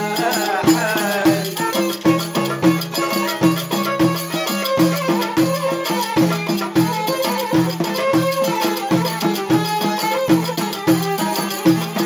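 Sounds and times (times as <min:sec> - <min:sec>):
folk music: 0:00.0 - 0:12.0
steady drum beat: 0:00.0 - 0:12.0.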